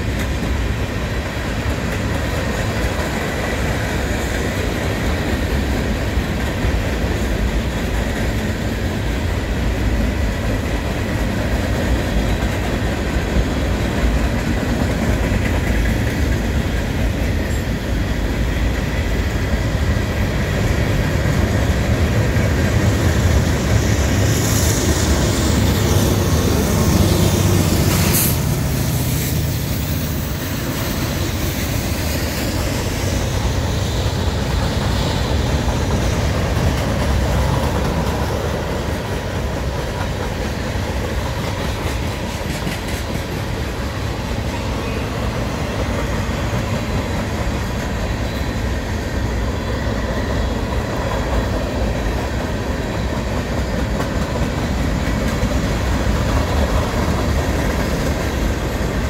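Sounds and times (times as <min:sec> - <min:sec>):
diesel locomotives under power: 0:00.0 - 0:59.0
freight train wheels rumbling: 0:00.0 - 0:59.0.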